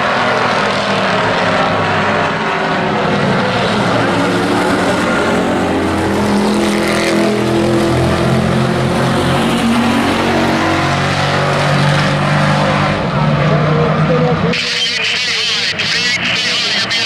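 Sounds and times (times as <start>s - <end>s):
truck engines accelerating: 0.0s - 17.0s.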